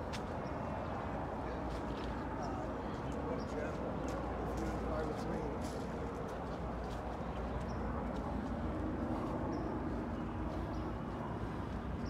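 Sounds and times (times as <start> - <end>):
street traffic hum: 0.0 - 12.0.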